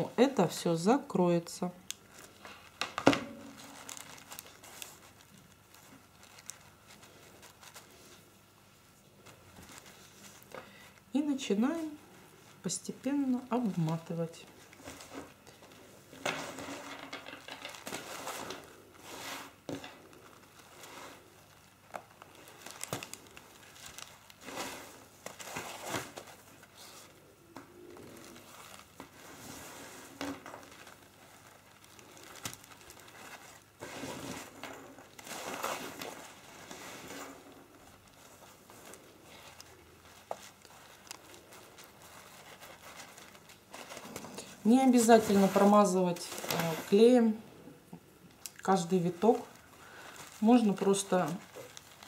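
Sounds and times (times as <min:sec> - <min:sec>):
rope rustling and crinkling paper: 0:01.8 - 0:47.4, 0:48.2 - 0:52.0.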